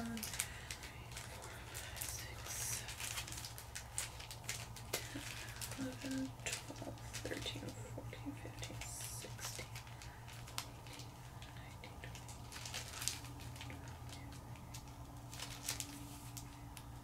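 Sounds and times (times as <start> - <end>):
steady low hum: 0.0 - 17.0
wrappers crinkling and ticking: 0.0 - 17.0.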